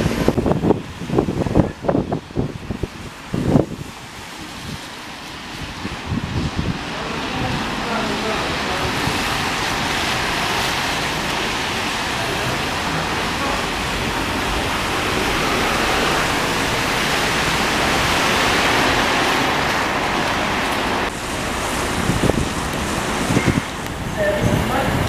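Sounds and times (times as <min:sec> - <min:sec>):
bus engine noise: 0:00.0 - 0:25.0
tyres hissing on wet road: 0:00.0 - 0:25.0.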